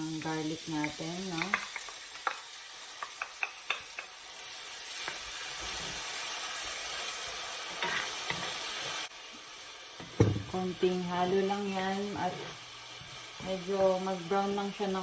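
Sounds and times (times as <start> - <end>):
garlic sizzling in a pan: 0.0 - 15.0.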